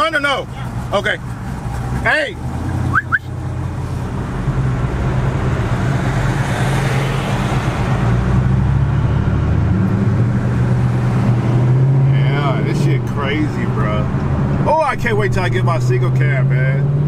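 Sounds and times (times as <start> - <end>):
car engine accelerating: 0.1 - 17.0.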